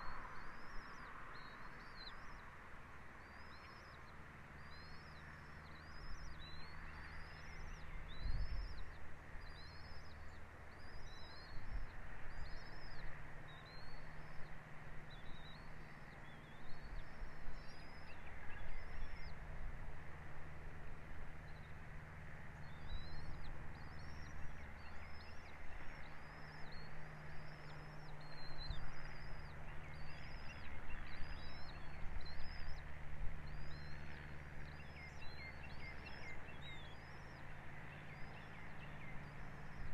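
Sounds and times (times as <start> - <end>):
bird chirping: 0.0 - 2.5, 3.2 - 19.4, 22.6 - 39.9
steady low hum: 0.0 - 39.9.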